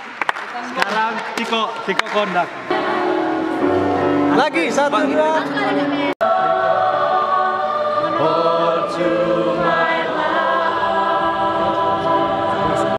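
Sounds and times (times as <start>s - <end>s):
mixed choir singing: 0.8s - 4.2s, 4.8s - 12.9s.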